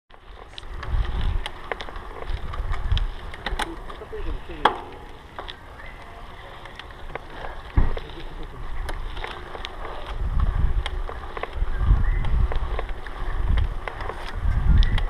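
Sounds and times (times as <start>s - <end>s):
wind buffeting microphone: 0.2s - 6.0s, 7.0s - 15.0s.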